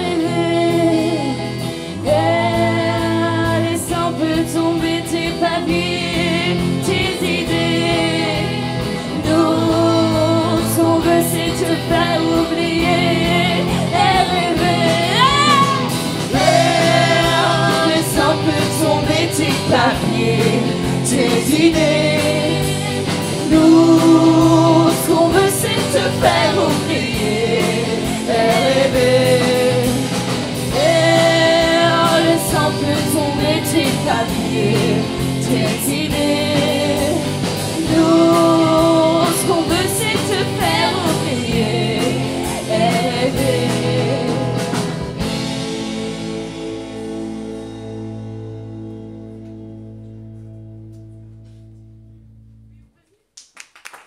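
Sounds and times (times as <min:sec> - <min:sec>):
woman singing: 0:00.0 - 0:44.9
drum kit: 0:00.0 - 0:49.0
guitar: 0:00.0 - 0:53.2.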